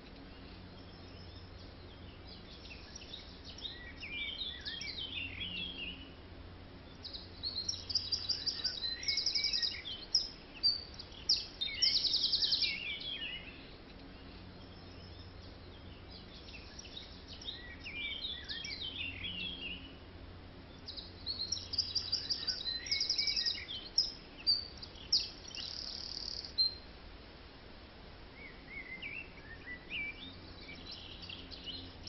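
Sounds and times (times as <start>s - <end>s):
birds singing and chirping: 0.0s - 6.2s, 6.8s - 20.0s, 20.6s - 26.8s, 28.4s - 32.0s.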